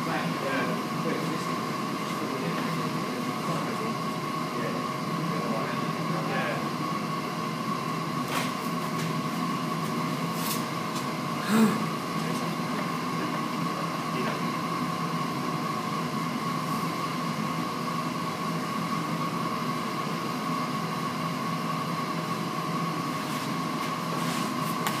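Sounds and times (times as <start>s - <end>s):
machine hum with high whine: 0.0s - 25.0s.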